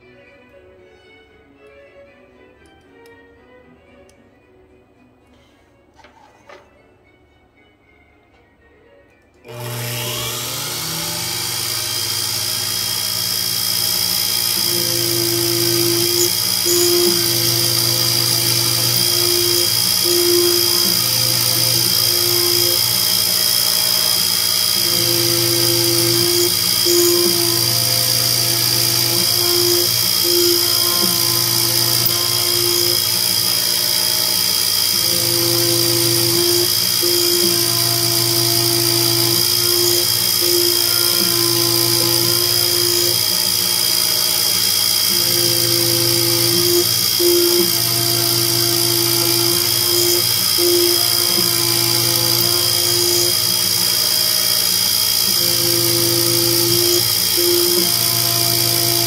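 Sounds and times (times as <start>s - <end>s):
machine axes humming: 9.5s - 59.0s
milling spindle whining: 9.5s - 59.0s.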